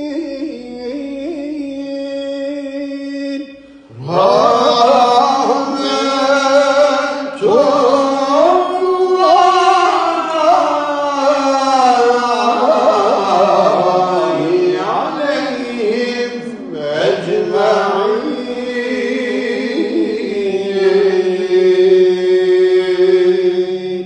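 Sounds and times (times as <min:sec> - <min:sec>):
man chanting religious melody: 0:00.0 - 0:24.0.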